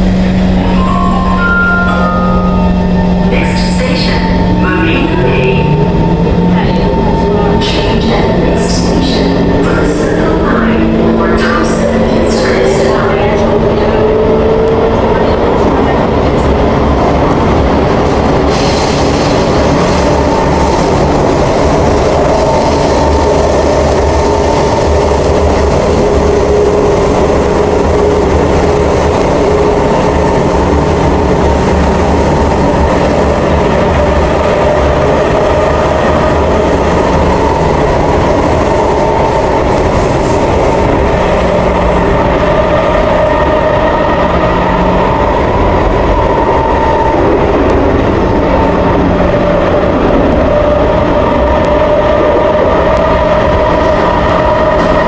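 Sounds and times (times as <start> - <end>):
train wheels rumbling on rail: 0.0 - 1.4, 2.5 - 55.0.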